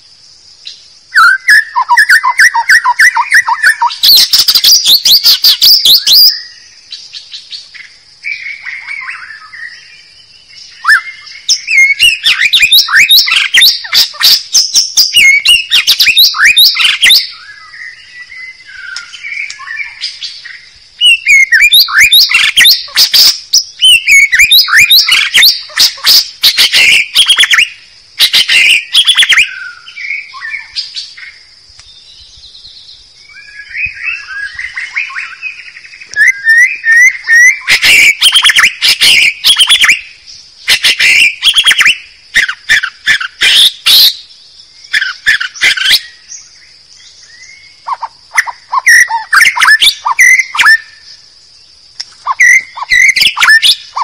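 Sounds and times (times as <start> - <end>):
bird singing loudly: 0.6 - 31.4, 32.1 - 51.2, 52.2 - 54.0.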